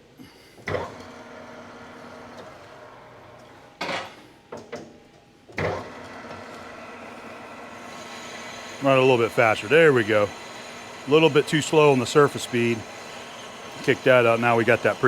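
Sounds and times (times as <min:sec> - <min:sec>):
lathe humming: 0:00.8 - 0:03.8, 0:05.6 - 0:15.0.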